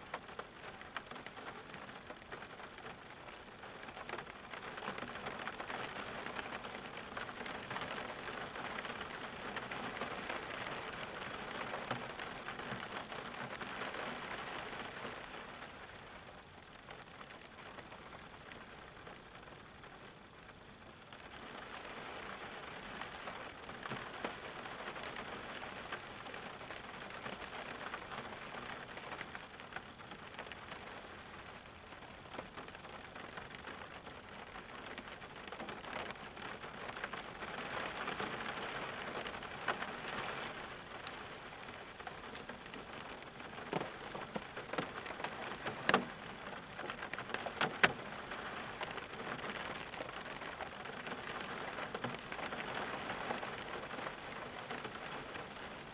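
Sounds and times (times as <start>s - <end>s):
steady rain patter: 0.0s - 55.9s.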